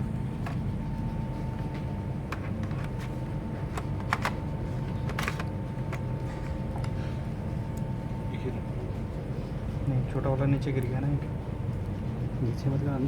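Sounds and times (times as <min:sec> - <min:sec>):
low hum with faint whine: 0:00.0 - 0:13.0.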